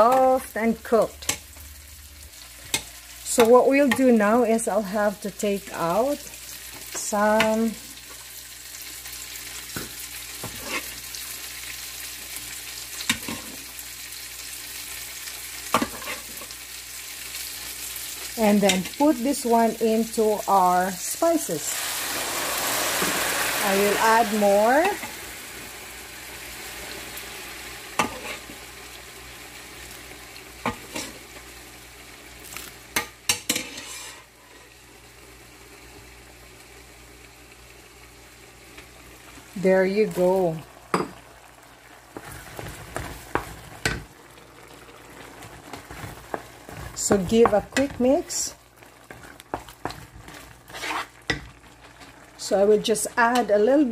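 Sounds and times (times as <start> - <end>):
food sizzling in a pan: 0.0 - 53.9.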